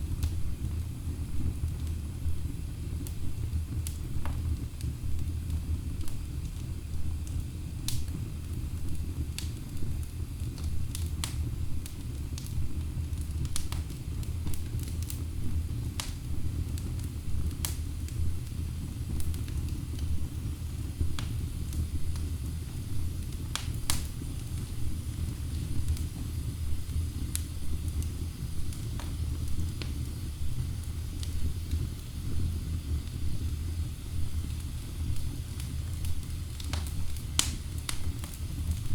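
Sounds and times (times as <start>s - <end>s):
wood fire rumbling: 0.0s - 38.9s
logs crackling and popping: 3.8s - 8.6s, 9.4s - 32.1s, 34.4s - 38.9s.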